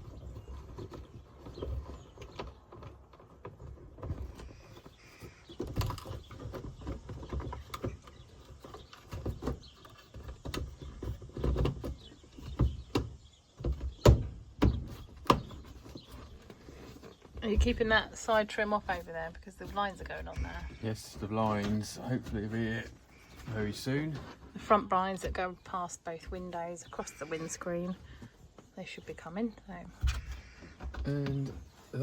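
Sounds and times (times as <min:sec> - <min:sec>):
rustling: 0:00.0 - 0:32.0.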